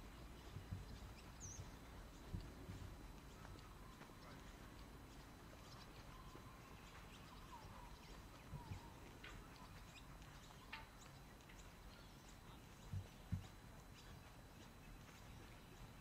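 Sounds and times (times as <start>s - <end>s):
soft footstep thumps: 0.0s - 11.9s, 12.7s - 16.0s
faint bird chirps: 0.0s - 16.0s.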